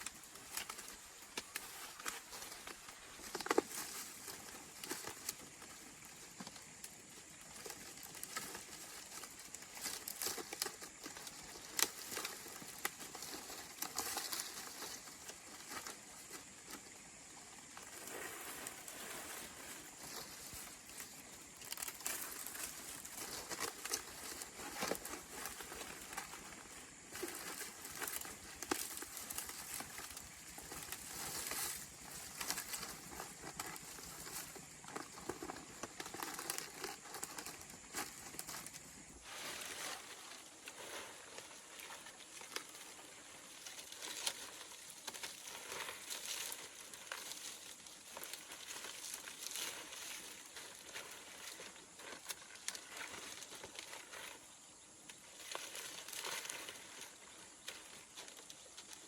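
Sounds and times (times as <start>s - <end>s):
rustling and crinkling: 0.0s - 59.0s.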